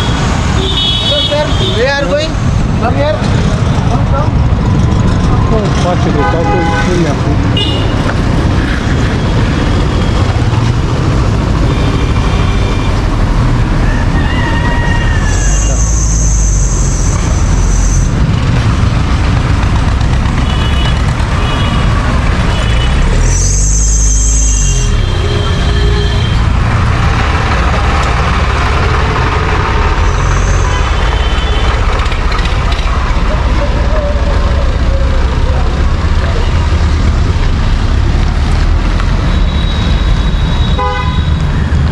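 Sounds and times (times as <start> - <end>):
street traffic: 0.0 - 41.9.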